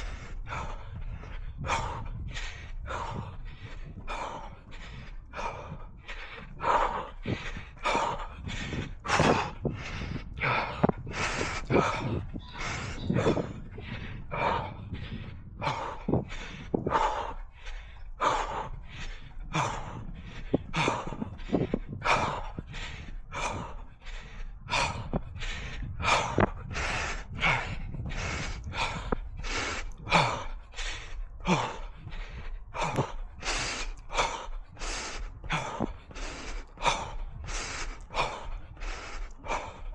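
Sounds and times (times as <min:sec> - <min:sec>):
heavy rhythmic breathing: 0:00.0 - 0:39.9.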